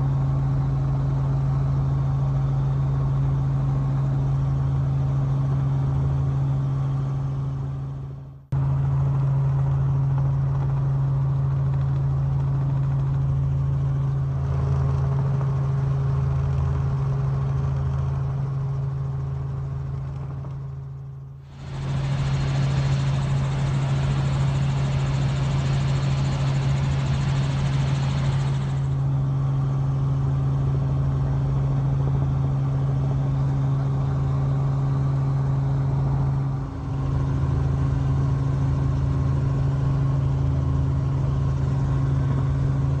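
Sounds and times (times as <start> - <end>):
helicopter engine and rotor drone: 0.0 - 43.0.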